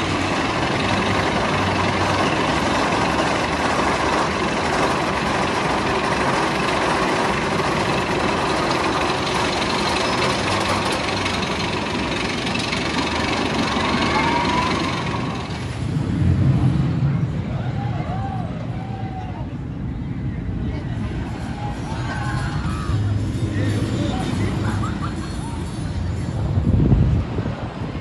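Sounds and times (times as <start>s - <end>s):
roller coaster train on steel track: 0.0s - 28.0s.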